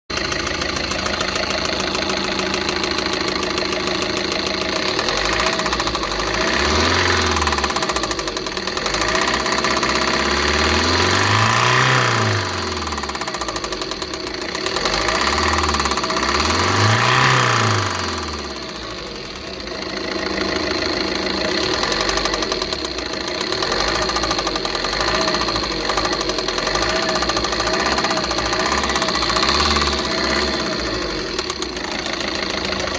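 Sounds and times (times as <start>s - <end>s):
diesel engine knocking and revving: 0.1s - 32.9s.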